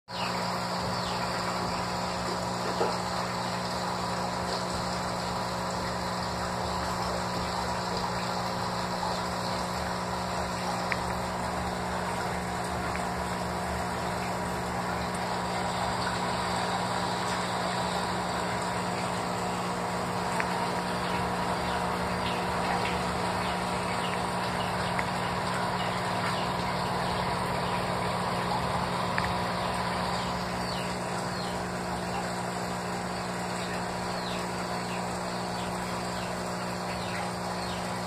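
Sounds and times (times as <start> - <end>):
mechanical hum: 0.1 - 38.0.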